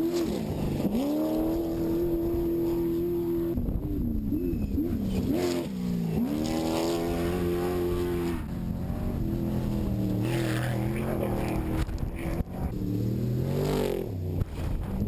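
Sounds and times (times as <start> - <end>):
truck engine at full throttle: 0.0 - 15.0.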